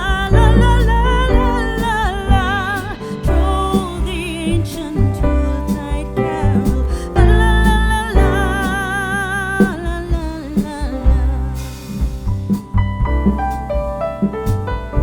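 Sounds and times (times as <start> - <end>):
heavy bass line: 0.0 - 15.0.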